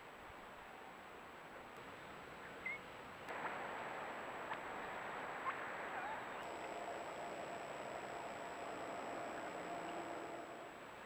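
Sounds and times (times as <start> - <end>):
steady hiss: 1.7 - 11.0
faint high whine: 1.8 - 11.0.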